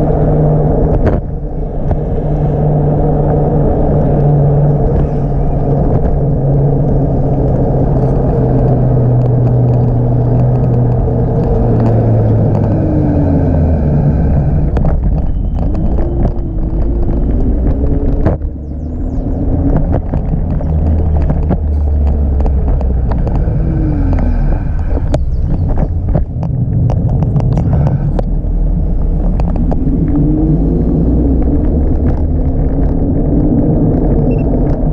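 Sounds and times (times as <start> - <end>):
electric scooter rumble and hum: 0.0 - 34.9.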